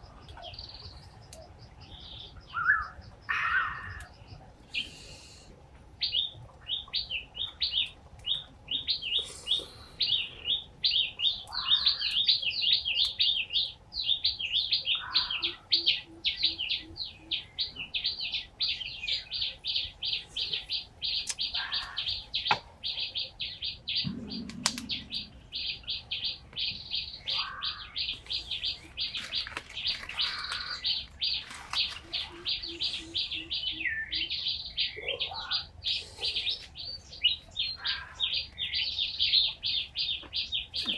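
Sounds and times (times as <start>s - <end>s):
lower bird calls: 0.0s - 40.9s
small birds chirping: 0.0s - 40.9s.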